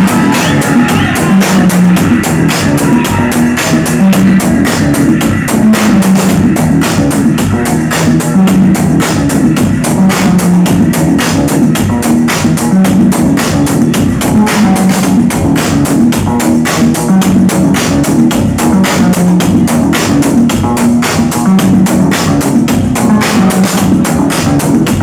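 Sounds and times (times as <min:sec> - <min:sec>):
driving drum beat: 0:00.0 - 0:25.0
heavy bass line: 0:00.0 - 0:25.0
loud live music: 0:00.0 - 0:25.0.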